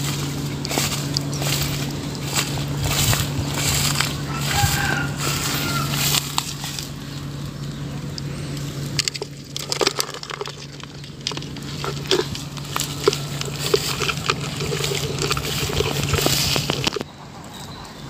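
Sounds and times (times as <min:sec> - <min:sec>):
low hum: 0:00.0 - 0:17.9.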